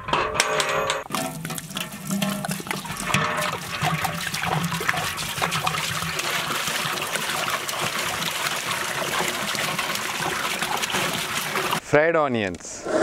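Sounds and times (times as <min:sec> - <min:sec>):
water splashing into metal pot: 0:01.1 - 0:11.8.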